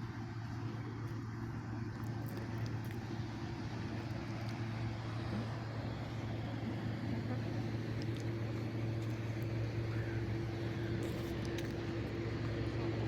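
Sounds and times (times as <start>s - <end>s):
motor traffic hum: 0.0s - 13.0s.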